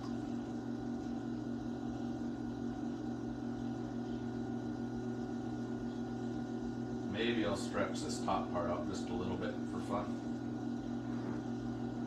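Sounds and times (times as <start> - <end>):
potter's wheel motor hum: 0.0 - 12.0.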